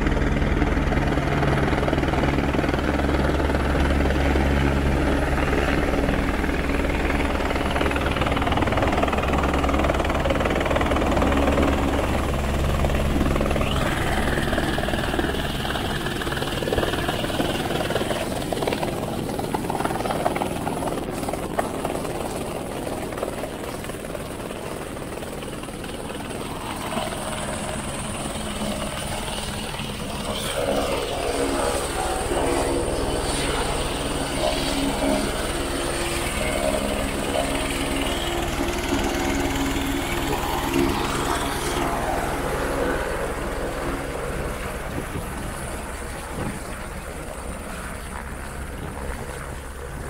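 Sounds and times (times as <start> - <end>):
helicopter turbine and rotor: 0.0 - 50.0.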